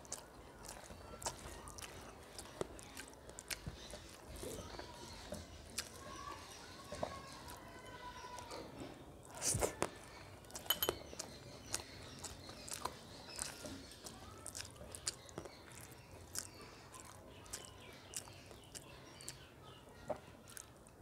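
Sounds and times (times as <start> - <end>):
fingers squishing wet rice: 0.0 - 21.0.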